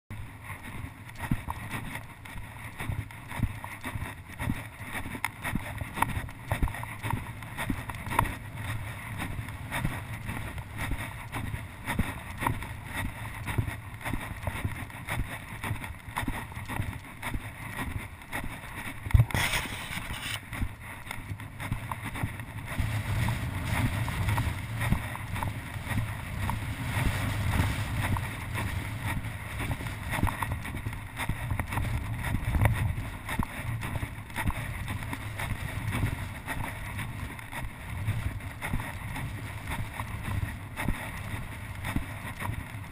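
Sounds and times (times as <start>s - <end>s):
footsteps in loose sand: 0.2s - 42.9s
wind buffeting microphone: 5.4s - 17.0s, 19.0s - 42.9s.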